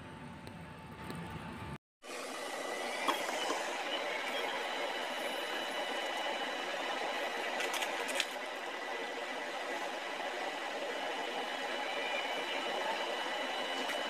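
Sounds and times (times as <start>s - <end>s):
faint high whining tones: 0.0s - 14.0s.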